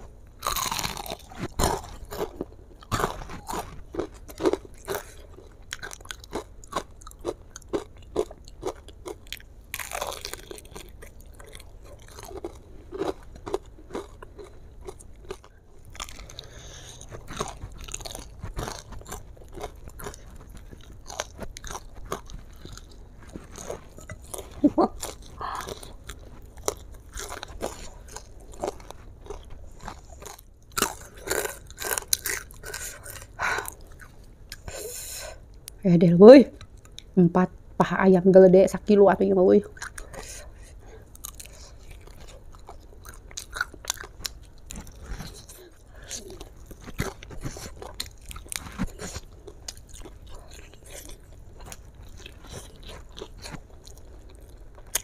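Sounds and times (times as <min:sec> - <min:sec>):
chewing sounds: 0:00.3 - 0:34.8, 0:39.6 - 0:55.0
crunching crispy fried chicken: 0:00.4 - 0:34.7, 0:41.0 - 0:55.0.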